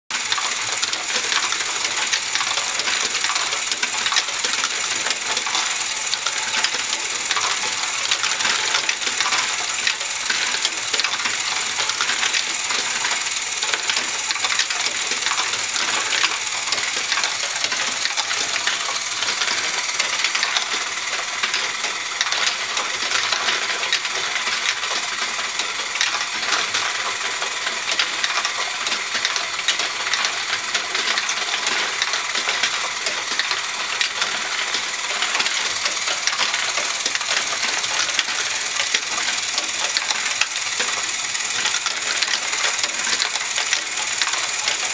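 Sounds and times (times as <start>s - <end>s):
plastic balls clattering and rolling: 0.1s - 44.9s.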